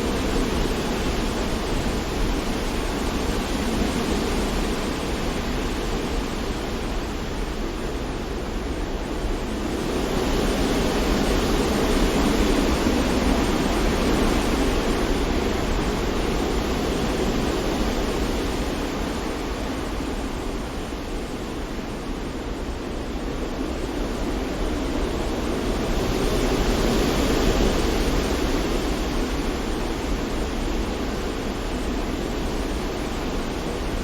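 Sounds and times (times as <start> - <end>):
wind: 0.0 - 34.0.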